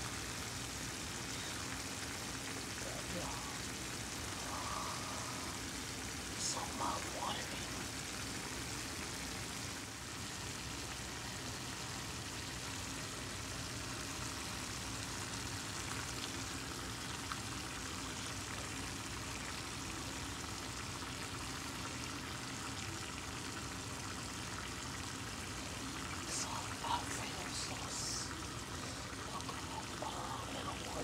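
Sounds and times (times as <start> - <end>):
shrimp and peppers sizzling in pan: 0.0 - 30.6.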